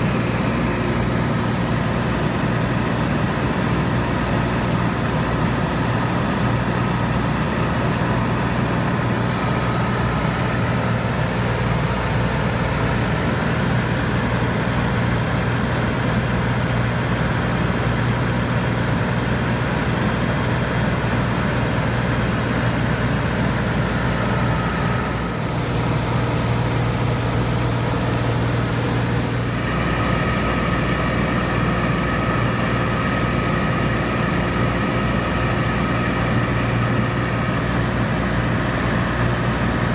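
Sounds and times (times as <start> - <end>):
propeller plane engine in flight: 0.0 - 39.9.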